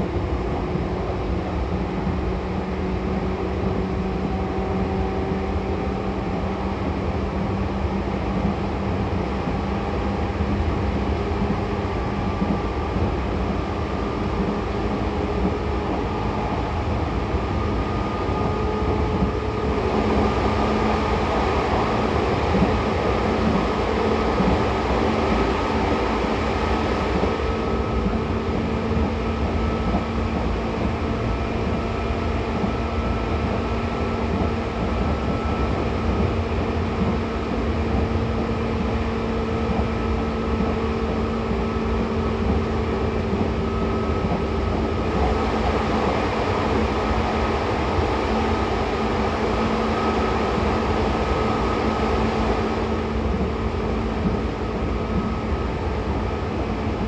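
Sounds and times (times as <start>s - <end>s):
train gear and motor whine: 0.0s - 57.0s
train wheels rumbling on rail: 0.0s - 57.0s.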